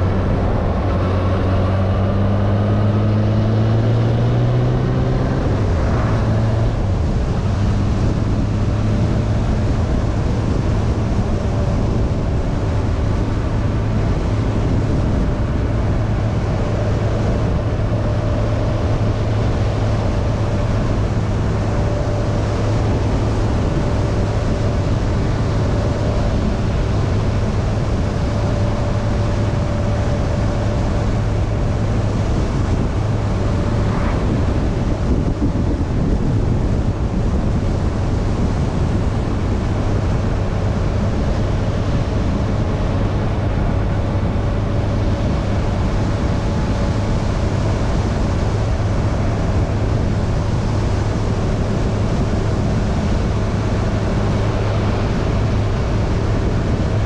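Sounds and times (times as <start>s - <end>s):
motorcycle engine cruising: 0.0s - 57.0s
wind rushing over microphone: 0.0s - 57.0s.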